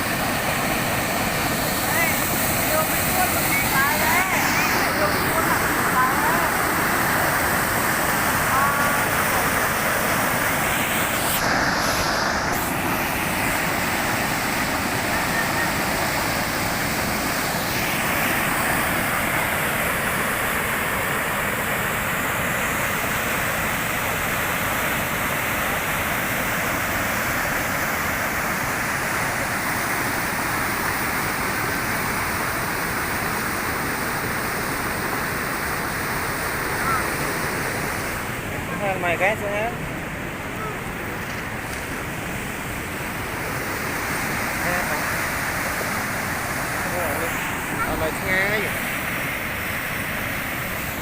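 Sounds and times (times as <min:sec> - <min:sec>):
floodwater rushing: 0:00.0 - 0:51.0.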